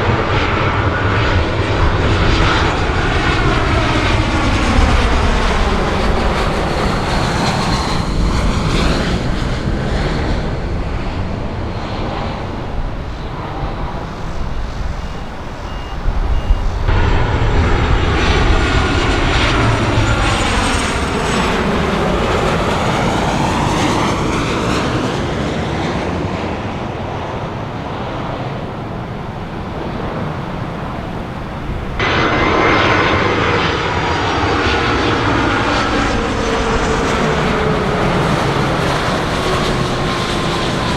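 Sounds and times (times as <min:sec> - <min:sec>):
jet airliners passing: 0:00.0 - 0:40.9.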